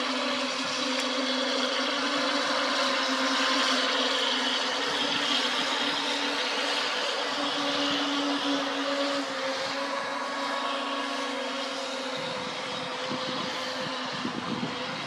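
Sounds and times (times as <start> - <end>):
model speedboat motors droning: 0.0 - 15.0.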